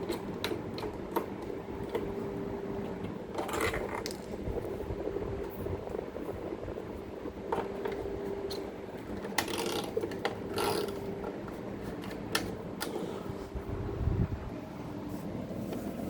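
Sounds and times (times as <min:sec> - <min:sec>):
fan clicking and rattling: 0:00.0 - 0:14.6
electric fan motor hum: 0:00.0 - 0:16.0.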